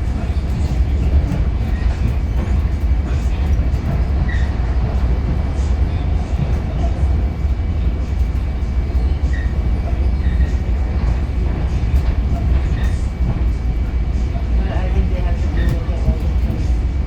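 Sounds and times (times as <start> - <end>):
rail and wheel noise: 0.0 - 17.0
train rumbling: 0.0 - 17.0.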